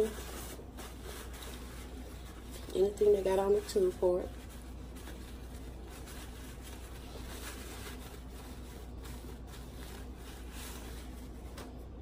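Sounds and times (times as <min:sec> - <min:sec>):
steady low hum: 0:00.0 - 0:12.0
tissue rustling on metal tube: 0:00.0 - 0:12.0.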